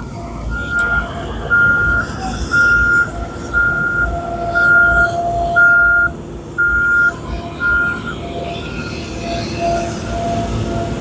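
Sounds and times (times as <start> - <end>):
engine running low: 0.0 - 11.0
reversing alarm beeping: 0.1 - 11.0.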